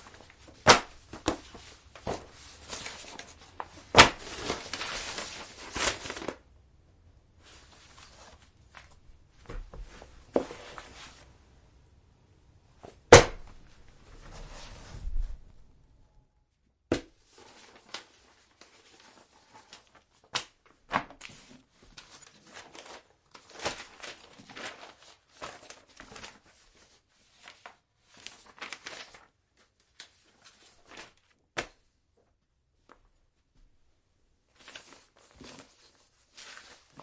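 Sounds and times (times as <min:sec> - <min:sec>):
pages rustling and flipping: 0:00.0 - 0:06.5, 0:07.4 - 0:11.3, 0:12.8 - 0:15.6, 0:17.2 - 0:31.8, 0:34.5 - 0:37.0.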